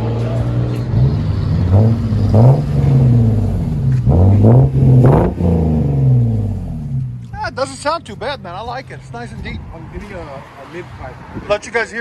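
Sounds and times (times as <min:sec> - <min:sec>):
car engine idling and revving: 0:00.0 - 0:11.5.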